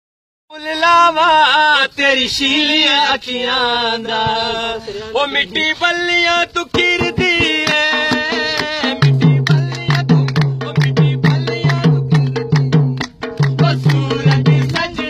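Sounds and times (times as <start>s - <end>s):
man singing unaccompanied: 0.5s - 15.0s.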